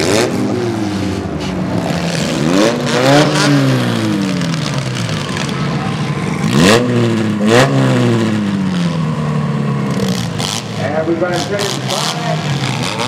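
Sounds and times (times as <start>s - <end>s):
small car engines revving: 0.0s - 13.0s.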